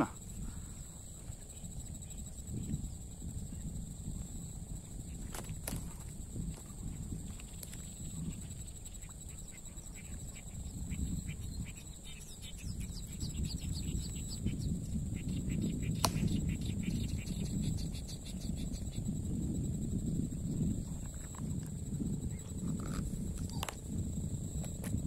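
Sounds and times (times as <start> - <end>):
faint rapid chirping calls: 0.0 - 25.0
high insect whine: 0.0 - 25.0
low wind rumble: 0.0 - 25.0.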